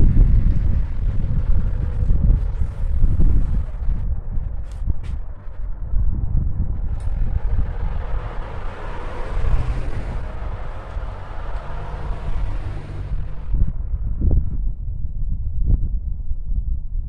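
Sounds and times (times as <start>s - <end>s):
vehicle passing: 0.0s - 14.5s
wind rumble on microphone: 0.0s - 17.0s.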